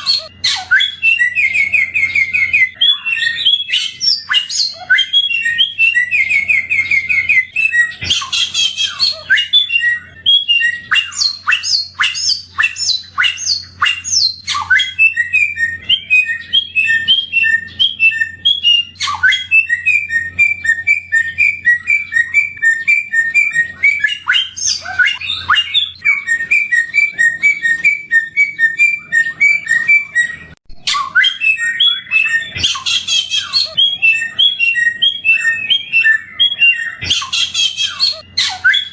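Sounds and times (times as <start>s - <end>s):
bird singing trills and whistles: 0.0s - 38.9s.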